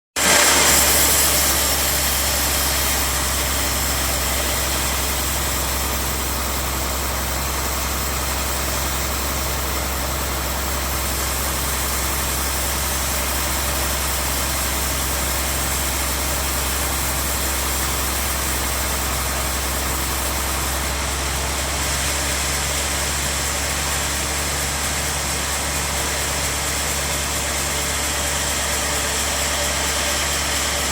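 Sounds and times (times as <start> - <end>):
band saw humming and hissing: 0.2 - 30.9.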